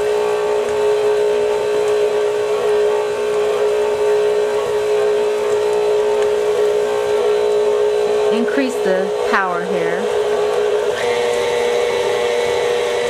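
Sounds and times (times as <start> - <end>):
stand mixer motor whining: 0.0 - 13.0.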